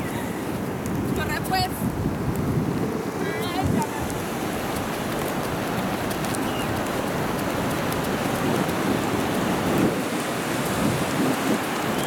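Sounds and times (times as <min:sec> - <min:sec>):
rain falling steadily: 0:00.0 - 0:12.0
raindrops ticking: 0:00.5 - 0:12.0.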